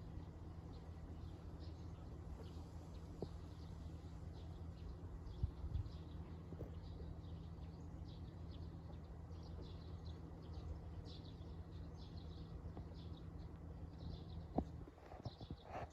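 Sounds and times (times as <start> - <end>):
small birds chirping: 0.0 - 15.9
steady low hum: 0.0 - 15.9.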